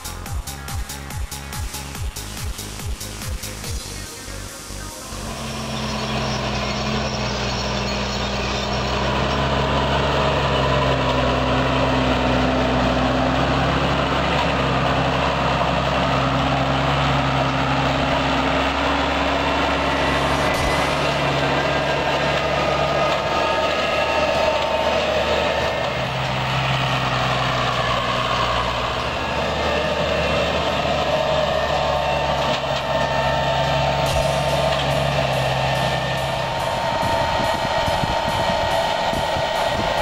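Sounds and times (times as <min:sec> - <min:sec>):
tractor engine rumbling: 0:00.0 - 0:40.0.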